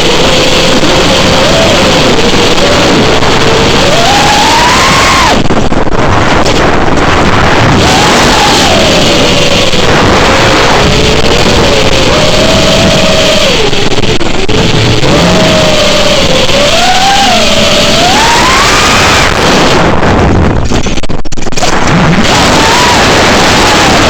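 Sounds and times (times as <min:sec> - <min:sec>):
drone motors and propellers whining: 0:00.0 - 0:24.0
loud rushing noise: 0:00.0 - 0:24.0.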